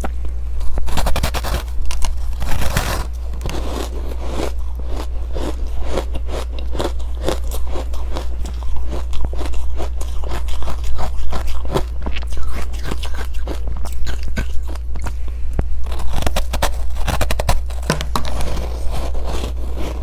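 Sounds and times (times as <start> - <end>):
low steady hum: 0.0 - 20.0
crunching ice: 0.6 - 15.0, 15.8 - 20.0.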